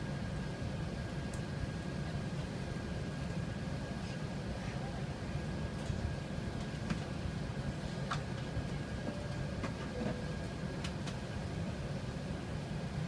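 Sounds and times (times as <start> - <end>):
airliner cabin rumble and hiss: 0.0 - 13.0.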